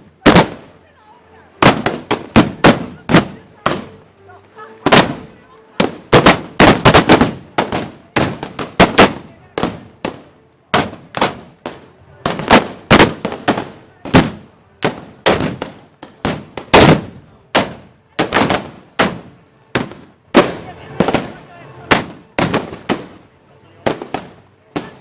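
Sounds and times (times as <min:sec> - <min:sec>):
volley of gunshots: 0:00.0 - 0:00.7, 0:01.6 - 0:03.9, 0:04.9 - 0:23.2, 0:23.9 - 0:25.0.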